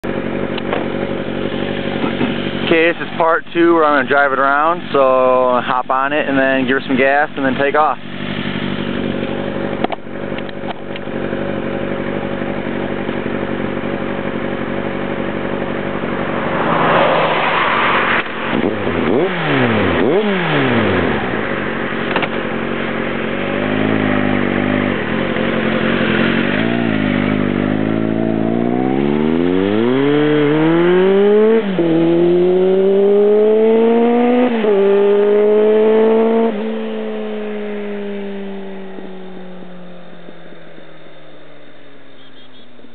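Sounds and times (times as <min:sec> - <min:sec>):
motorcycle engine idling: 0:00.0 - 0:16.8, 0:18.2 - 0:29.5, 0:36.0 - 0:42.9
motorcycle engine revving: 0:00.0 - 0:42.6
motorcycle accelerating and shifting: 0:00.0 - 0:42.9.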